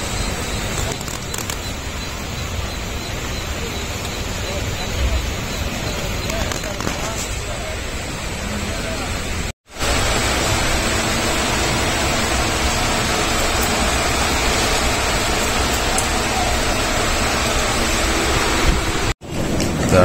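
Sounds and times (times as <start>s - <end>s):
train running along track: 0.0s - 20.0s.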